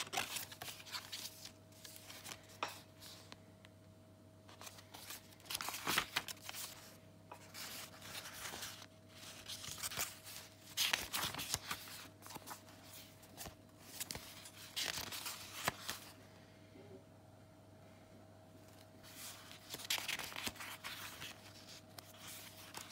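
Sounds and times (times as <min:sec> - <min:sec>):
paper pages rustling: 0:00.0 - 0:03.4, 0:04.5 - 0:16.2, 0:18.6 - 0:22.9
faint steady hum: 0:00.0 - 0:22.9.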